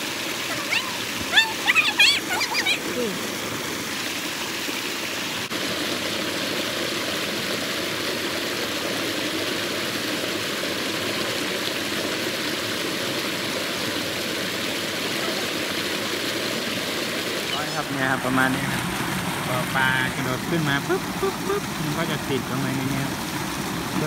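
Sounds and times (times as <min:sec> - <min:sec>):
floodwater rushing over weir: 0:00.0 - 0:24.0.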